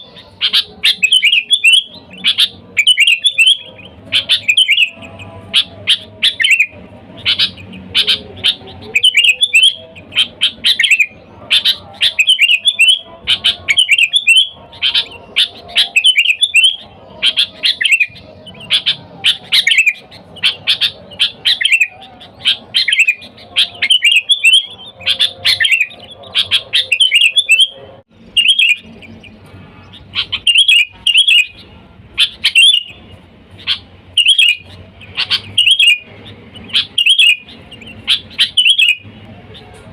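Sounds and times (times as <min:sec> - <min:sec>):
bulbul chirping: 0:00.0 - 0:39.8.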